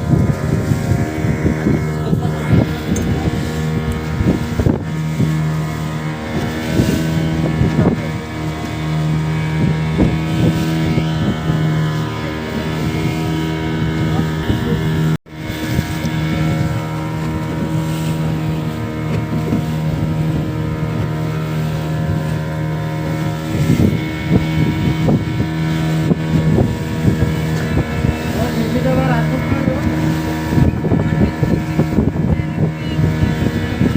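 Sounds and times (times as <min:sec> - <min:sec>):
motorboat engine droning: 0:00.0 - 0:33.9
wind buffeting microphone: 0:00.0 - 0:33.9.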